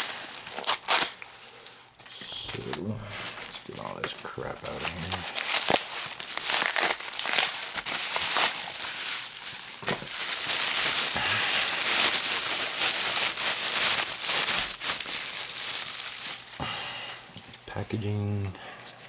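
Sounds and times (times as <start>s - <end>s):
packing material crinkling: 0.0s - 19.0s.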